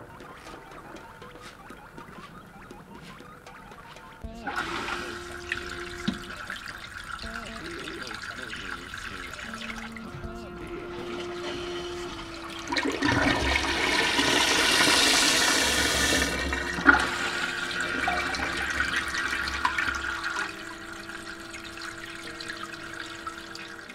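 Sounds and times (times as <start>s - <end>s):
toilet flushing: 4.3s - 23.9s.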